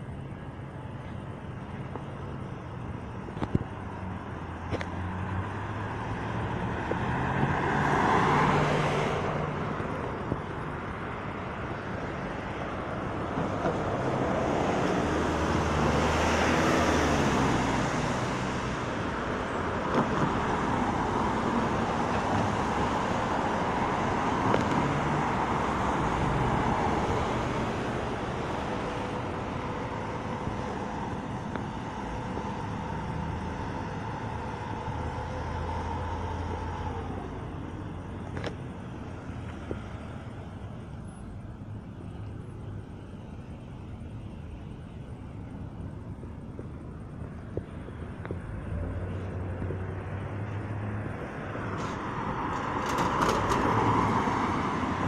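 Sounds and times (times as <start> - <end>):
cars passing: 0.0 - 55.0
low engine hum: 0.0 - 55.0.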